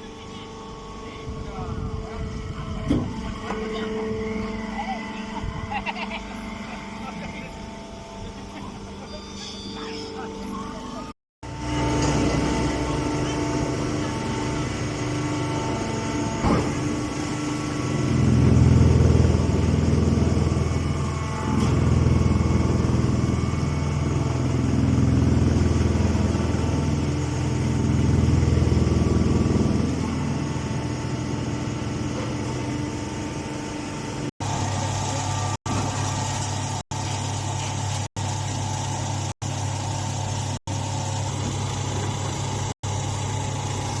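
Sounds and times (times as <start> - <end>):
baler machinery drone: 0.0 - 44.0.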